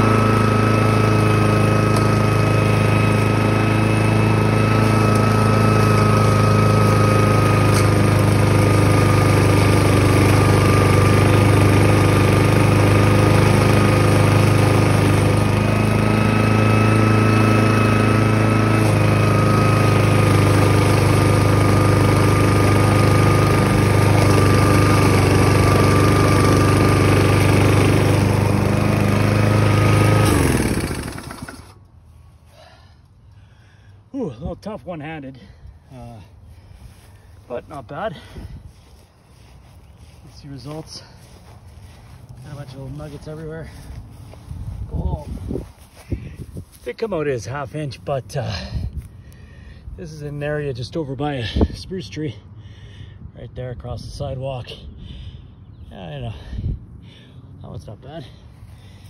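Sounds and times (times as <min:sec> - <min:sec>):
lawn mower engine running: 0:00.0 - 0:53.0, 0:54.7 - 0:59.0.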